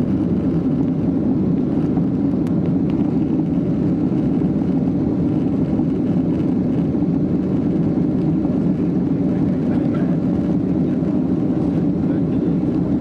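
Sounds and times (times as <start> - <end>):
jet engine drone in cabin: 0.0 - 13.0.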